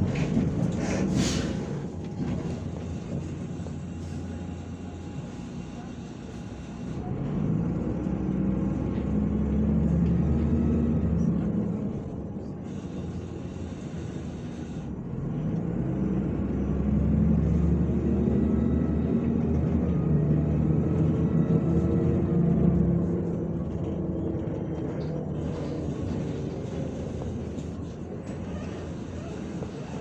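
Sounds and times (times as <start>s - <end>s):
bus engine accelerating: 0.0s - 30.0s.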